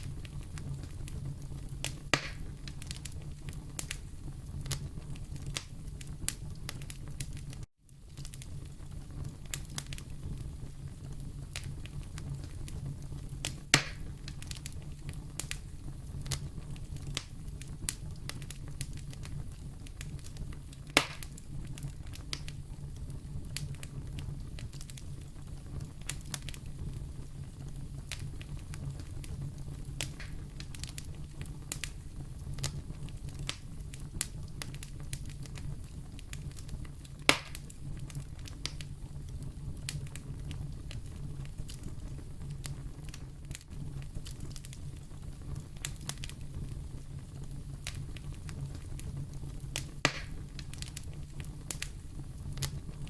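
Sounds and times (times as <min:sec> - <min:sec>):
fire popping: 0:00.0 - 0:53.0
wood fire crackling: 0:00.0 - 0:53.0.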